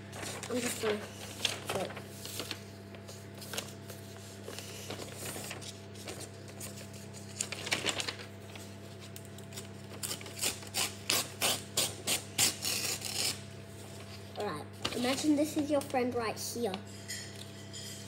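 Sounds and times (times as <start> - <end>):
paper rustling and crinkling: 0.0 - 11.7, 12.5 - 16.7
steady low hum: 0.0 - 18.0.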